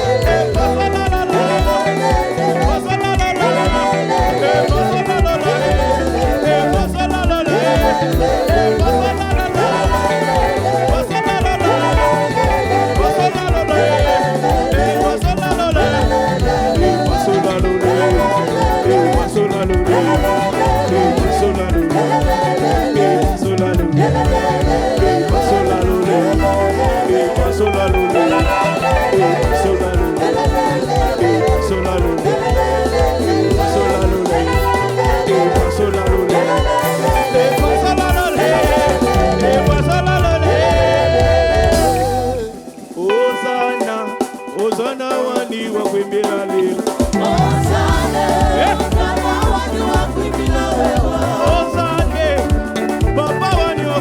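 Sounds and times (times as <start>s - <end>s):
gospel band playing: 0.0s - 54.0s
people singing: 0.0s - 54.0s.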